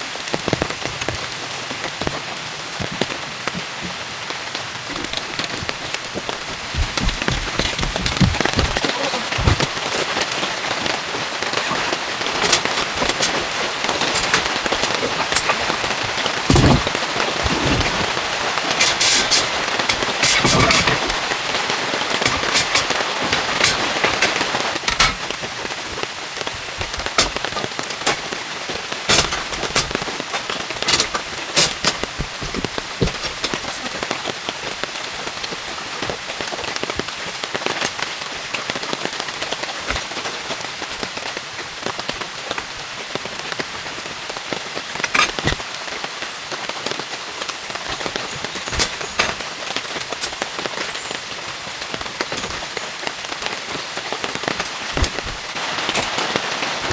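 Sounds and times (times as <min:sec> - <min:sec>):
rain hiss: 0:00.0 - 0:56.9.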